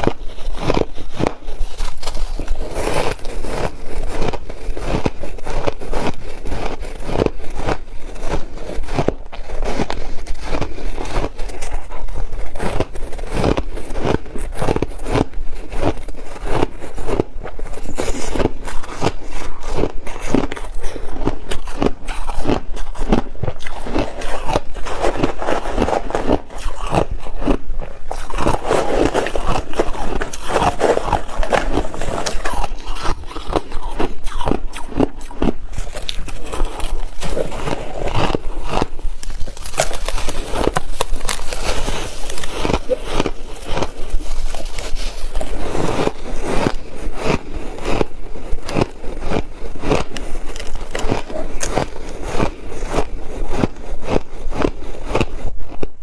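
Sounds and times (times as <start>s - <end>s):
person chewing ice: 0.0s - 56.0s.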